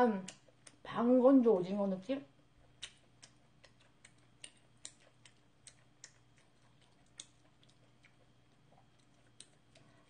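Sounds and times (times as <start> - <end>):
soft chewing with mouth closed: 0.0 - 0.9, 2.3 - 10.0.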